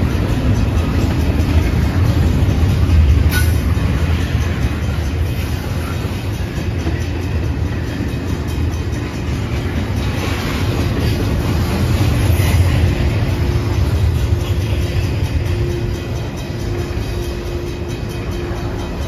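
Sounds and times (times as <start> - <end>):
crossing bell ringing: 0.0 - 19.0
freight train rumbling: 0.0 - 19.0.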